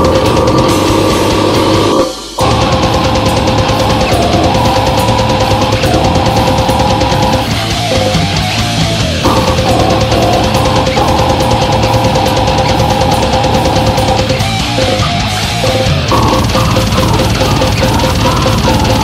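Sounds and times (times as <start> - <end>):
death metal music: 0.0 - 19.0.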